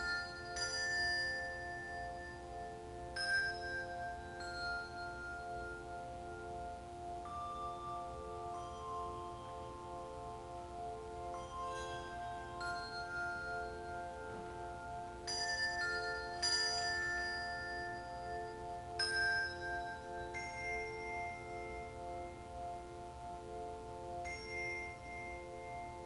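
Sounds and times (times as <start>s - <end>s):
handbell choir holding a chord: 0.0s - 26.0s.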